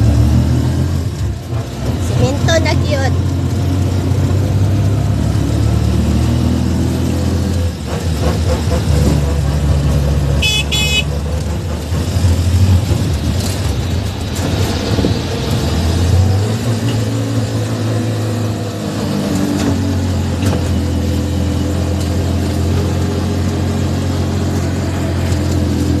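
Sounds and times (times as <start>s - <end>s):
car engine hum: 0.0s - 26.0s
road noise: 0.0s - 26.0s.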